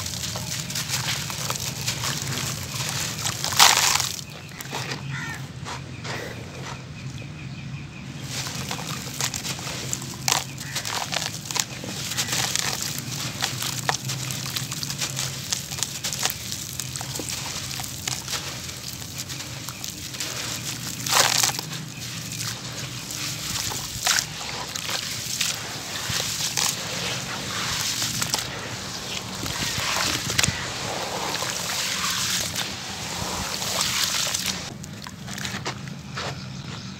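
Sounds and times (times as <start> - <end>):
crumbs splashing into water: 0.0 - 5.0, 8.2 - 35.6
hands crumbling wet cement: 0.0 - 5.4, 8.2 - 35.7.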